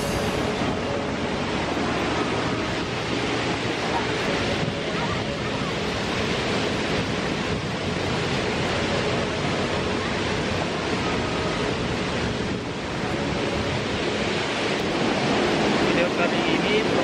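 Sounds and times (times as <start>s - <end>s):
fast stream rushing: 0.0s - 17.0s
waterfall roar: 0.0s - 17.0s.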